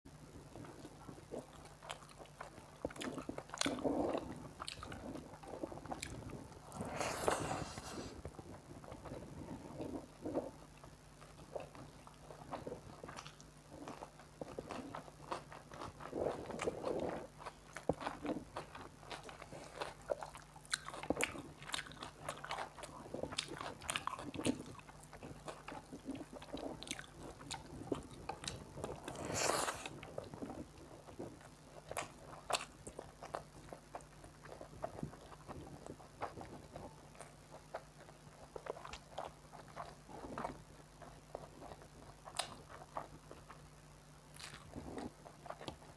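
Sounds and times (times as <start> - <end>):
wet chewing: 0.4 - 45.9.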